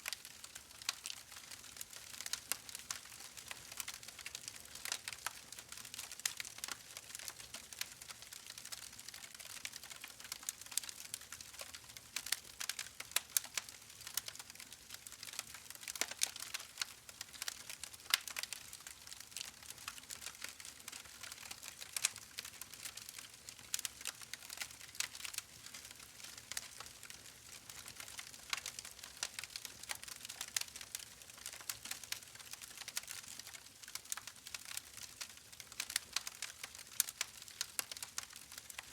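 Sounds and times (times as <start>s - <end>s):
crackling clicks and pops: 0.0s - 38.9s.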